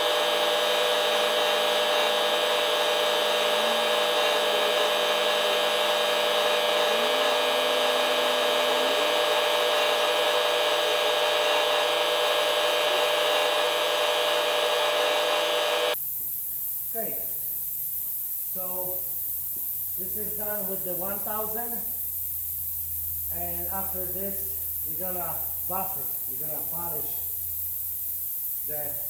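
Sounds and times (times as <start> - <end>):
power sander on aluminum: 0.2 - 29.0.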